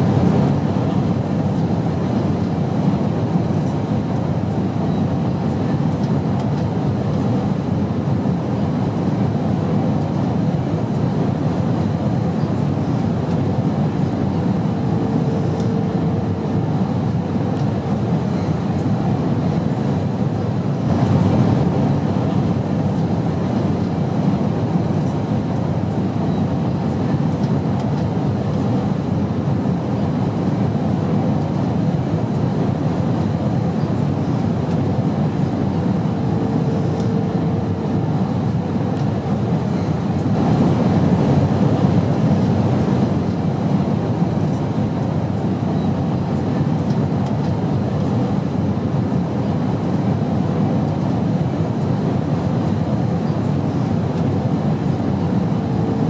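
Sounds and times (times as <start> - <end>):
airplane engine and rushing air: 0.0 - 56.0.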